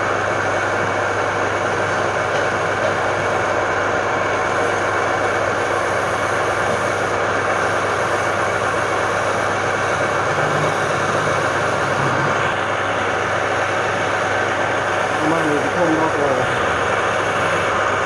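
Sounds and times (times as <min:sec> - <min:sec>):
wood lathe running: 0:00.0 - 0:18.0.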